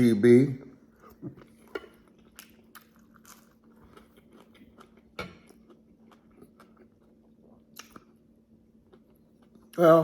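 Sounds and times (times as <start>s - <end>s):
faint steady hum: 0.0s - 10.0s
person chewing: 0.9s - 9.8s.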